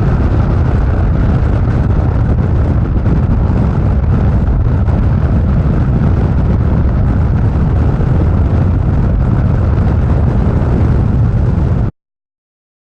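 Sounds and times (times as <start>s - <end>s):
motorcycle engine rumble: 0.0s - 11.9s
wind on microphone: 0.0s - 11.9s.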